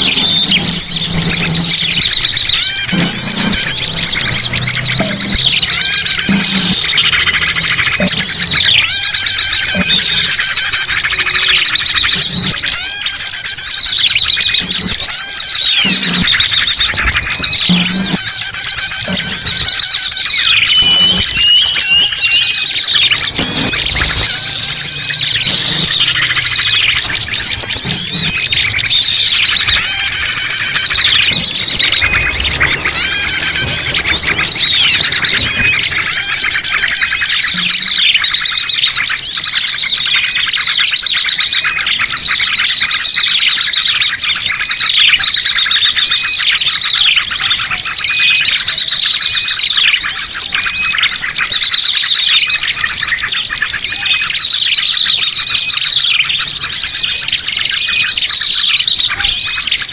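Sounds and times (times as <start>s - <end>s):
chorus of small birds chirping: 0.0s - 59.9s.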